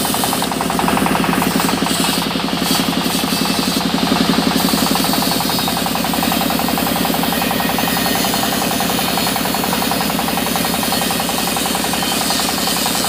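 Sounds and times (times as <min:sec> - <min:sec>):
band saw sawing wood: 0:00.0 - 0:13.0.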